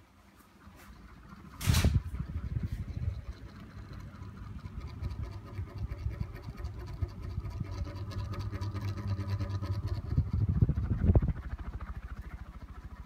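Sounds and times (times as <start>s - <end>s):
ceiling fan motor hum: 0.0s - 13.0s
rush of air from fan blades: 0.0s - 13.0s
wind buffeting microphone: 1.4s - 13.0s.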